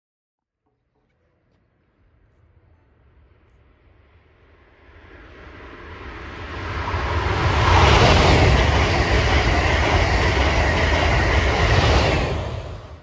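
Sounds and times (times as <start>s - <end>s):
train passing at speed: 2.1s - 13.0s.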